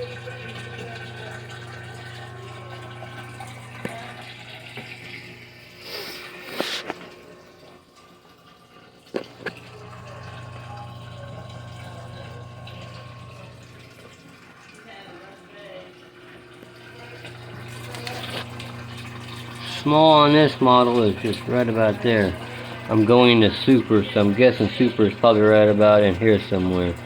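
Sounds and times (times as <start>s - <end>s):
washing machine hum: 0.0s - 27.0s
water running into washing machine: 0.0s - 27.0s.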